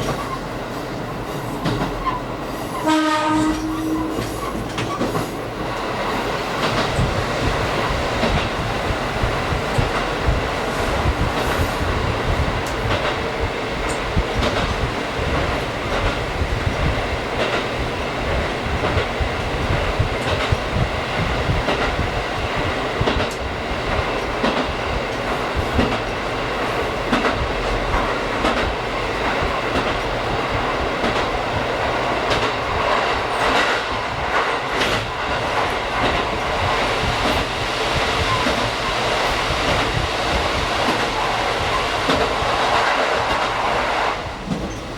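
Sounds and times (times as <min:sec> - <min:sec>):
diesel railcar engine rumble: 0:00.0 - 0:44.9.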